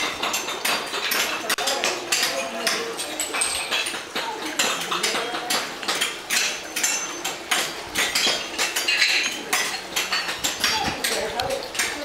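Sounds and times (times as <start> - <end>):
hammers chipping ceramic tile: 0.0 - 12.0.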